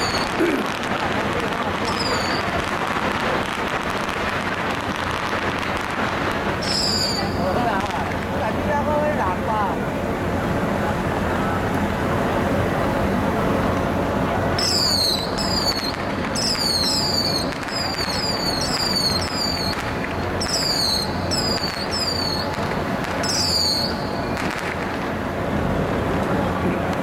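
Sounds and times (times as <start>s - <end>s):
whistling fireworks: 0.0s - 9.5s, 12.2s - 27.0s
low harbour rumble: 0.0s - 27.0s.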